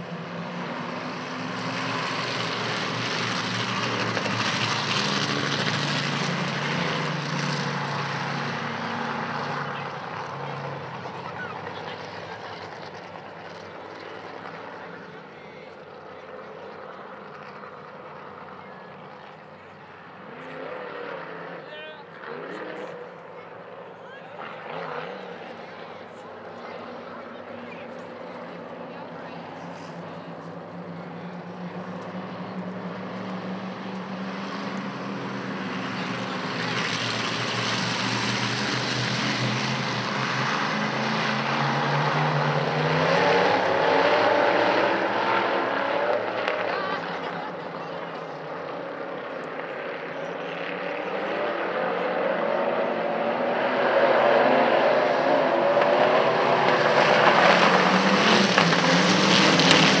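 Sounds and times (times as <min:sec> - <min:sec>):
race car engines passing: 0:00.0 - 1:00.0.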